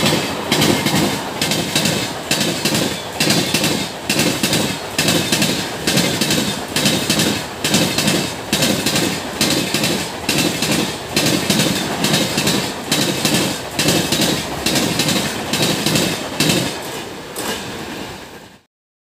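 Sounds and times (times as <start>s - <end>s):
train wheels clattering over rail joints: 0.0s - 18.3s.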